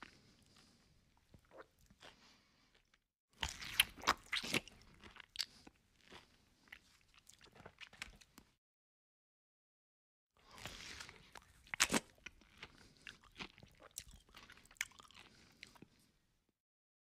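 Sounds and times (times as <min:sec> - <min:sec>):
chewing and crunching food: 0:00.0 - 0:08.6, 0:10.4 - 0:16.4.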